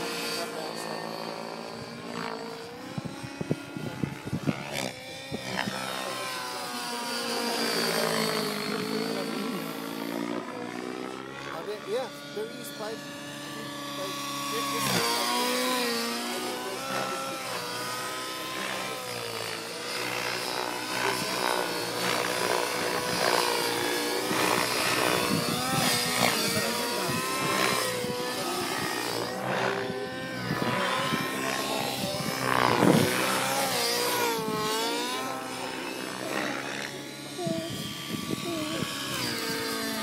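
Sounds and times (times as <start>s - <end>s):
model helicopter engine and rotor: 0.0s - 40.0s.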